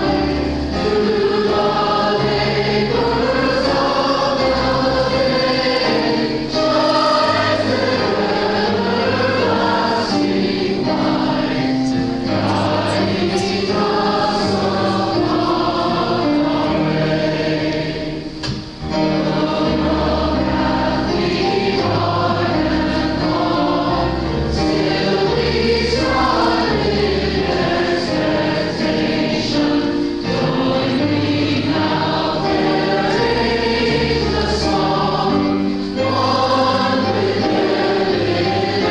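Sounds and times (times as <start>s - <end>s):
congregation singing a hymn: 0.0s - 38.9s
instrumental accompaniment: 0.0s - 38.9s.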